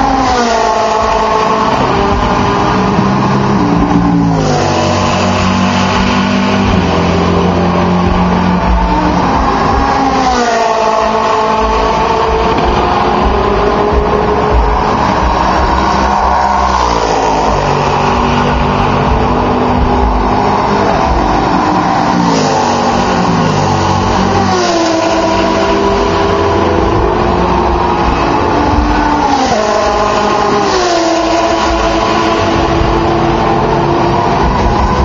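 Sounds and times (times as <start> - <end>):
race cars passing flat out: 0.0 - 35.0.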